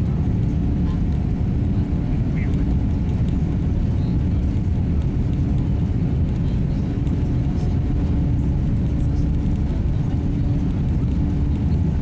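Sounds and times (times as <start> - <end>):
jet engines and wheels rumbling: 0.0 - 12.0.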